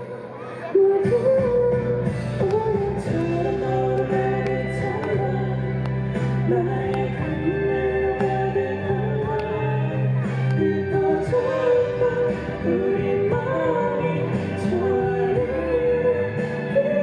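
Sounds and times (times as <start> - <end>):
pop band playing: 0.0 - 17.0.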